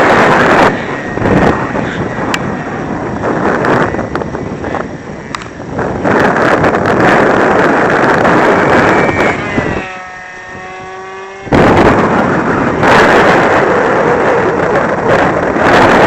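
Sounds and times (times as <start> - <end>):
model plane electric motor whine: 0.0 - 16.0
wind buffeting microphone: 0.0 - 16.0.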